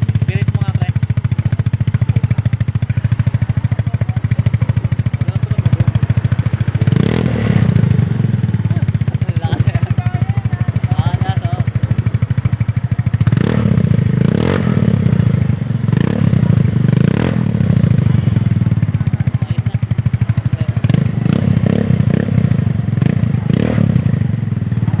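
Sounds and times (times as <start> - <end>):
motorcycle engine idling: 0.0 - 25.0
motorcycle throttle blips: 0.0 - 25.0.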